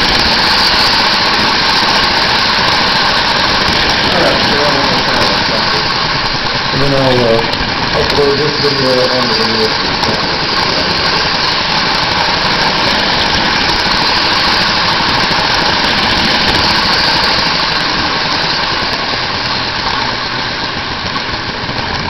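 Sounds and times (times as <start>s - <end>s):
toy train motor hum: 0.0s - 22.0s
toy train wheels clattering on rails: 0.0s - 22.0s.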